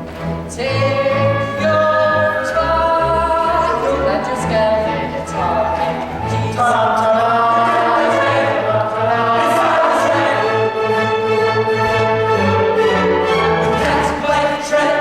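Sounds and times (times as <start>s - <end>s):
instrumental accompaniment: 0.0s - 15.0s
chorus singing in harmony: 0.6s - 15.0s.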